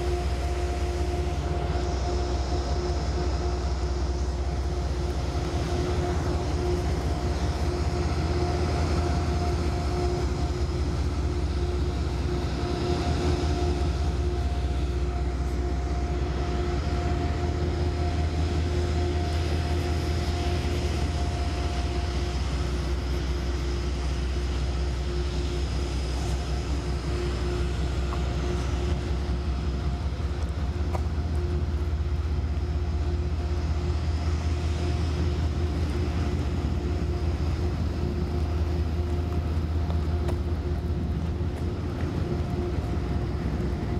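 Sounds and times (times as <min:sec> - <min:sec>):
constant whine: 0:00.0 - 0:43.9
diesel locomotive idling: 0:00.0 - 0:43.9.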